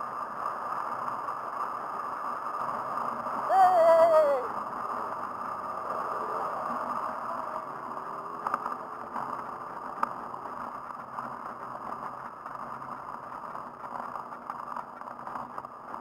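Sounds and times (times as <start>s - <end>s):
handbike rolling on asphalt: 0.0s - 16.0s.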